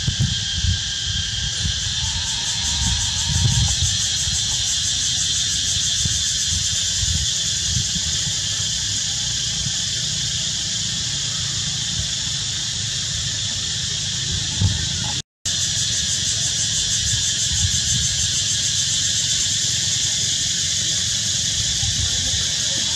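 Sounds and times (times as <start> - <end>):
cicadas droning: 0.0 - 22.9.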